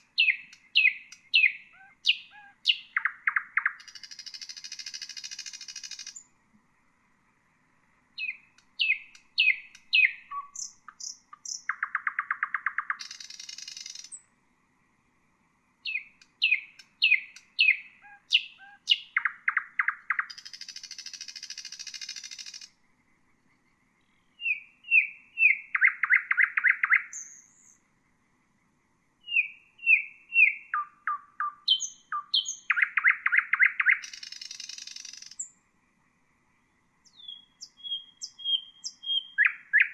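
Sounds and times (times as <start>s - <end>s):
nightingale singing: 0.0s - 6.4s, 8.0s - 14.3s, 15.8s - 28.0s, 29.2s - 35.6s, 36.6s - 39.9s.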